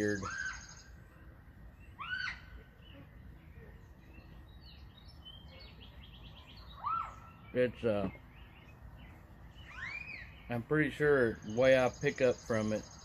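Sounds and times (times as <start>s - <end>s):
bird chirping: 0.0s - 13.0s
faint outdoor background noise: 0.0s - 13.0s.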